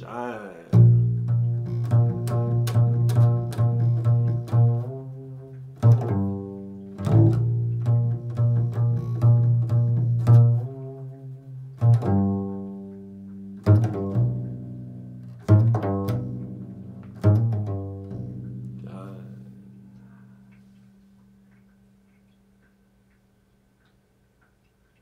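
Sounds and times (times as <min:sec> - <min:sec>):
low plucked string instrument: 0:00.7 - 0:22.2.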